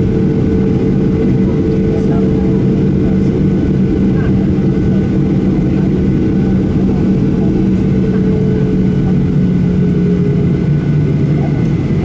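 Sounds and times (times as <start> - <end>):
aircraft cabin drone: 0.0 - 12.0
jet engine whining tones: 0.0 - 12.0.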